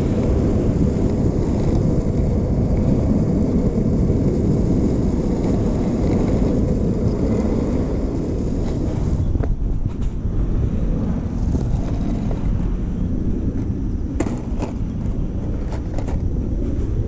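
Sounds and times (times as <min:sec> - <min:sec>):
skateboard wheels rolling on pavement: 0:00.0 - 0:17.0
wind buffeting microphone: 0:00.0 - 0:17.0.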